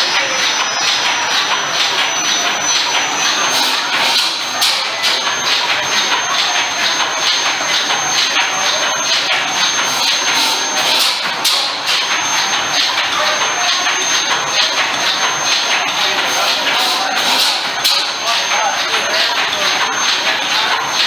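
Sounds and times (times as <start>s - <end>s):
stationary engine rapid beat: 0.0s - 21.0s.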